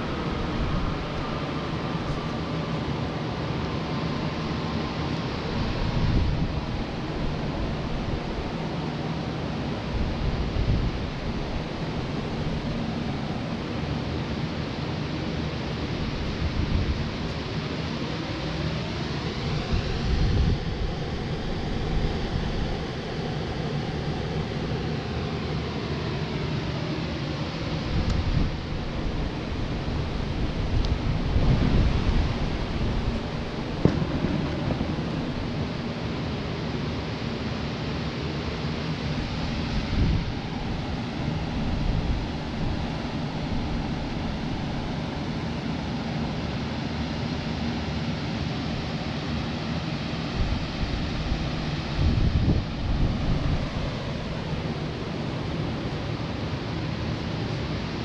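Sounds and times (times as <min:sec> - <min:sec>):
electric fans rushing air: 0:00.0 - 0:58.0.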